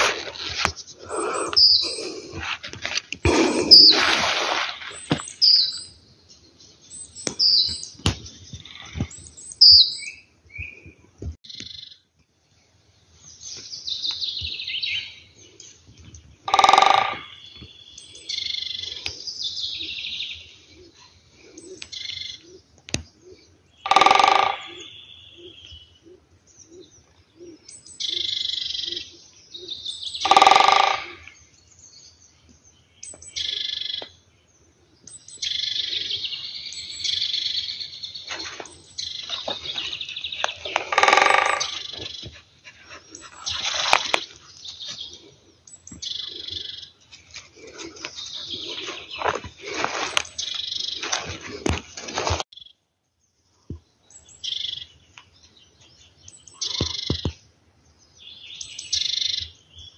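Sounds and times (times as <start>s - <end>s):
harsh bird calls: 0.0s - 12.1s, 13.3s - 52.7s, 54.0s - 57.5s
songbirds singing and chirping: 0.0s - 59.9s.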